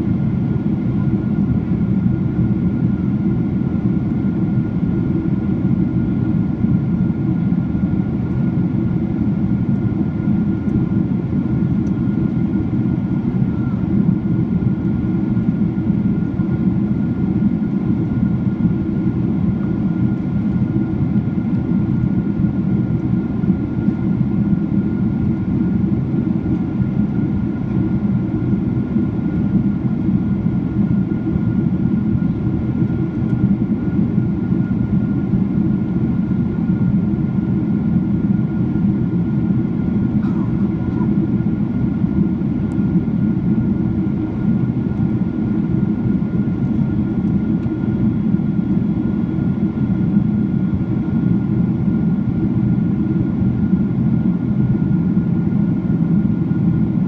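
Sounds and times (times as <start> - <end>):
jet engine cabin roar: 0.0 - 57.0.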